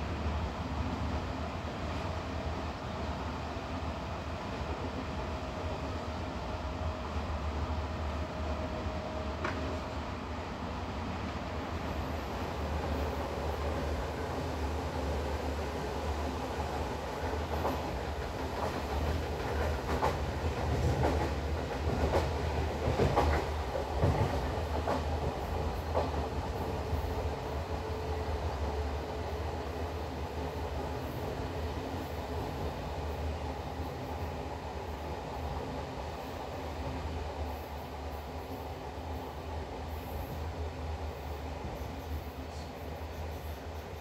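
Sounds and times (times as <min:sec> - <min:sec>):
train low rumble: 0:00.0 - 0:44.0.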